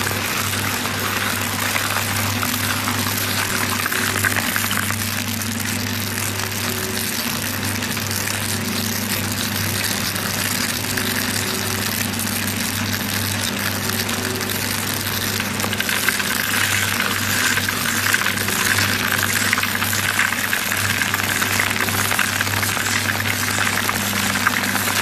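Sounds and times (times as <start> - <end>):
shredder motor humming: 0.0 - 25.0.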